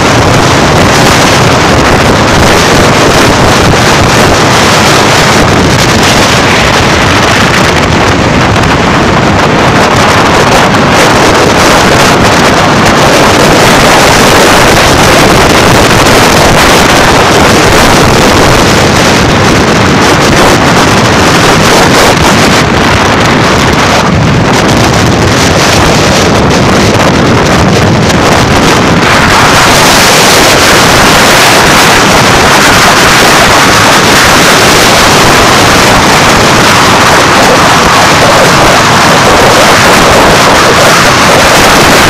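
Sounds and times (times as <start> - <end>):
road and traffic noise: 0.0 - 42.0
wind rushing over microphone: 0.0 - 42.0.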